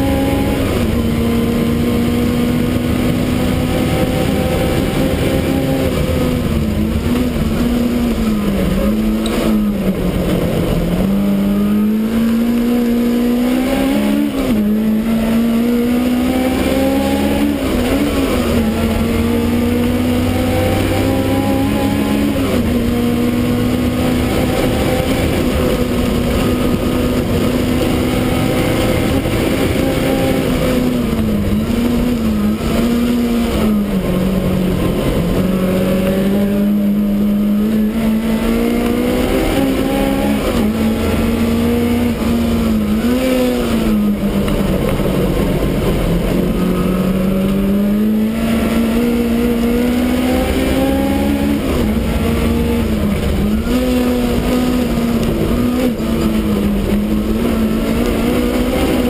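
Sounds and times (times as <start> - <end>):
car engine running hard: 0.0 - 59.0.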